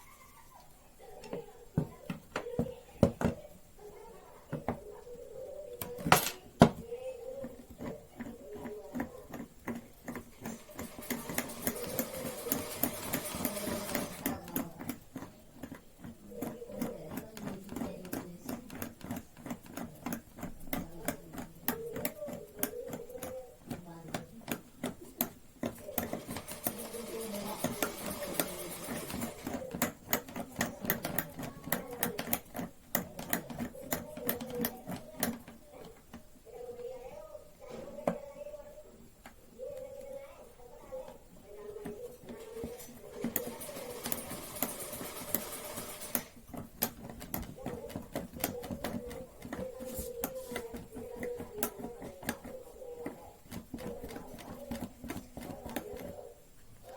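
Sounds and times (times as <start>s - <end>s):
rapid clicks of hand tools: 5.8s - 36.9s, 41.0s - 56.9s.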